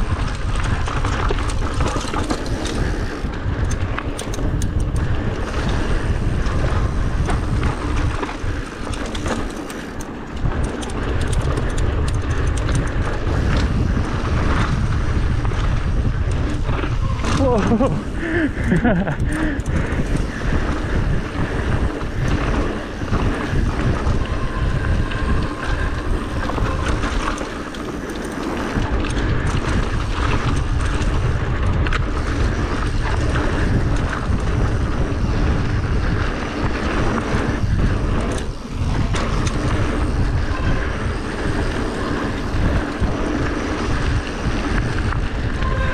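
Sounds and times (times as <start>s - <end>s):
bike knocking and rattling: 0.0s - 45.9s
tyres rumbling on dirt and gravel: 0.0s - 45.9s
wind on microphone: 0.0s - 45.9s.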